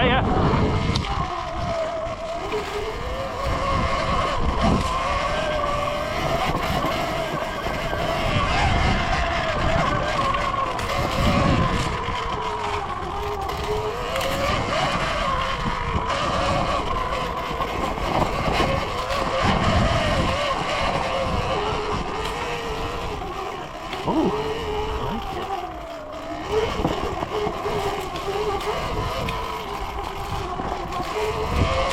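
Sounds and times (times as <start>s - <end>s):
electric dirt bike motor whining: 0.0s - 31.9s.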